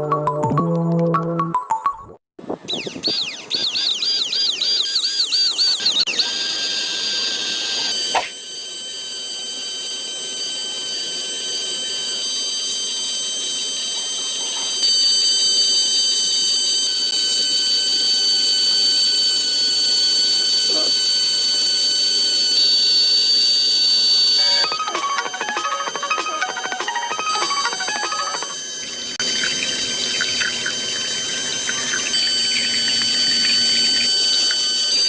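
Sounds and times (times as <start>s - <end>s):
high-pitched warbling whine: 2.5s - 35.0s.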